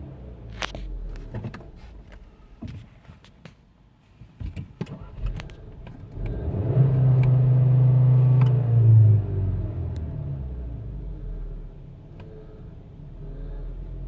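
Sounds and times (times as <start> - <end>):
car loud steady hum: 0.0 - 14.0.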